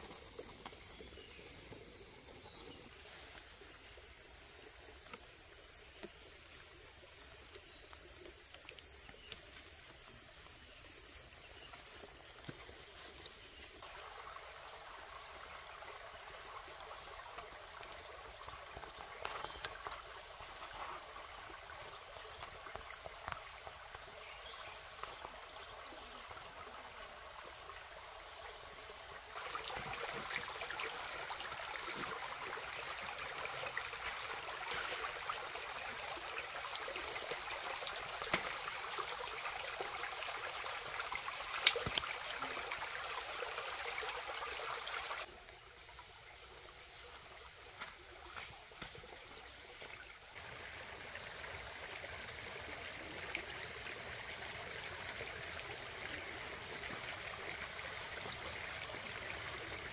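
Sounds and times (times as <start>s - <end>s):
high-pitched insect chorus: 0.0s - 59.9s
stream water trickling: 0.0s - 59.9s.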